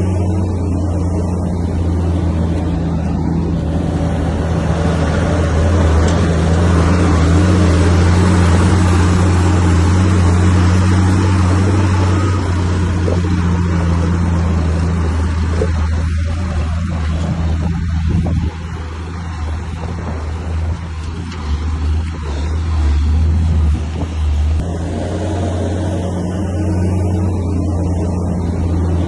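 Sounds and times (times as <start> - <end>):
heavy diesel engine humming: 0.0 - 29.0.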